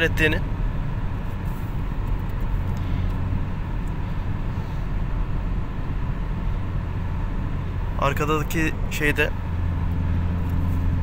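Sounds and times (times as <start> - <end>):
in-cabin road and engine noise: 0.0 - 11.0.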